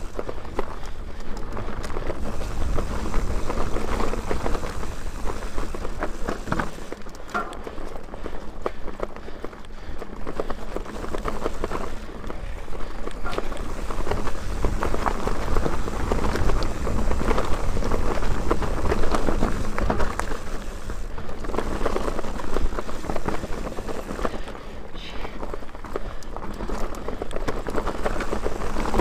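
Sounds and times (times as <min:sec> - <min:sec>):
bike rattling over bumpy trail: 0:00.0 - 0:29.0.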